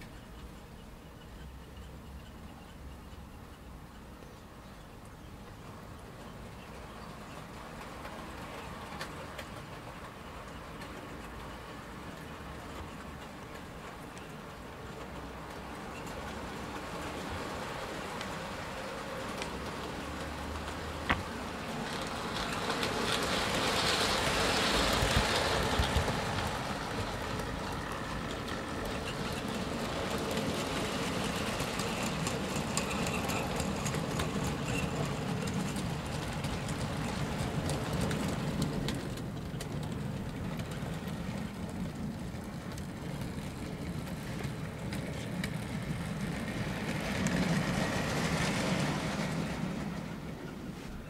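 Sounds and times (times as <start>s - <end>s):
wheels clicking over rail joints: 0.0s - 51.0s.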